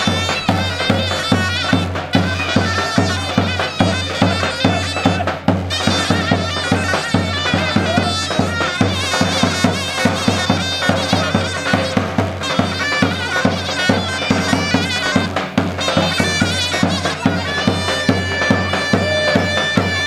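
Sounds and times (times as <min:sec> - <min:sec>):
reedy wind instrument melody: 0:00.0 - 0:20.0
regular drum beat: 0:00.0 - 0:20.0.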